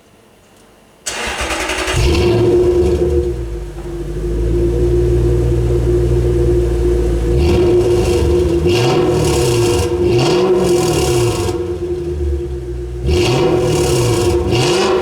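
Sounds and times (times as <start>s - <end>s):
high-pitched car engine revving: 1.1s - 15.0s.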